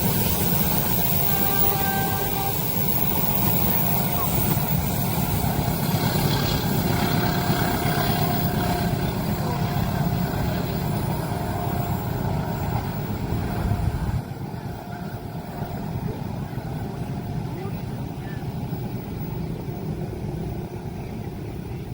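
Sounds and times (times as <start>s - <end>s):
passing train rumble: 0.0s - 21.9s.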